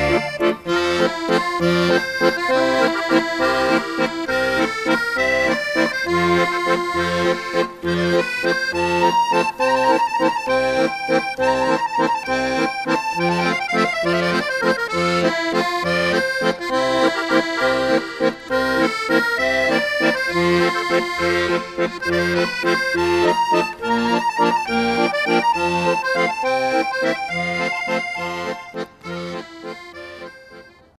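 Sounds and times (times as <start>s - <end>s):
instrumental music with steady beat: 0.0s - 30.9s.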